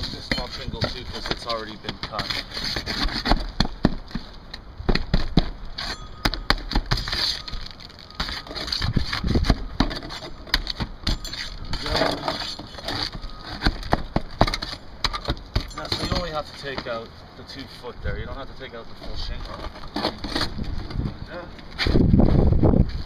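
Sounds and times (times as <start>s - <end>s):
pry bar scraping on shingles: 0.0s - 17.1s, 18.7s - 22.1s.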